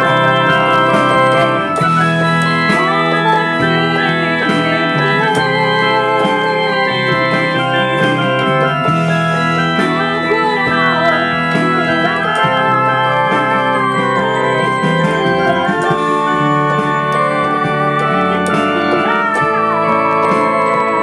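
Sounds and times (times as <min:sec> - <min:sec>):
electronic keyboard playing chords: 0:00.0 - 0:21.0.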